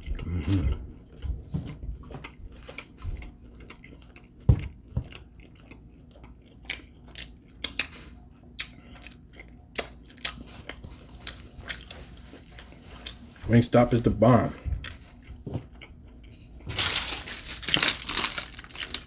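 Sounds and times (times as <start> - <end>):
person chewing: 0.0 - 13.4, 14.7 - 19.0.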